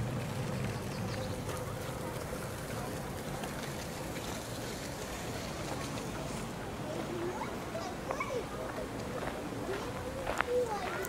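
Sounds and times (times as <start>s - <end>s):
faint distant voices: 0.0s - 11.0s
outdoor background noise: 0.0s - 11.0s.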